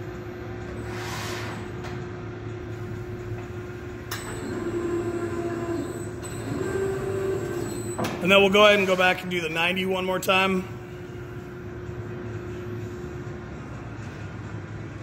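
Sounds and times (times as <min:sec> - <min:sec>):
folding machine drives humming: 0:00.0 - 0:15.0.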